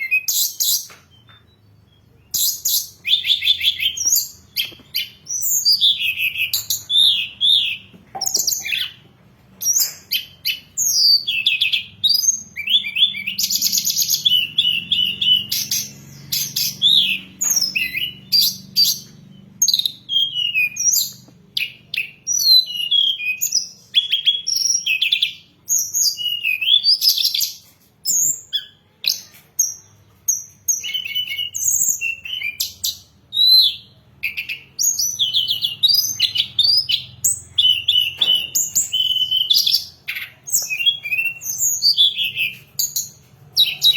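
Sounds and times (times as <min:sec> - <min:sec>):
bird singing chirps and trills: 0:00.0 - 0:43.9.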